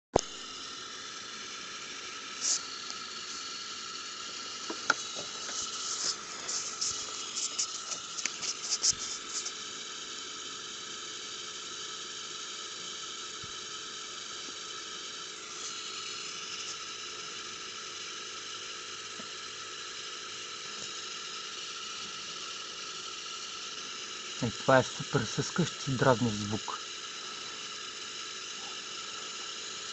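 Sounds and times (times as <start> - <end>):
fuel pressure regulator hissing: 0.2 - 10.9, 12.0 - 29.9.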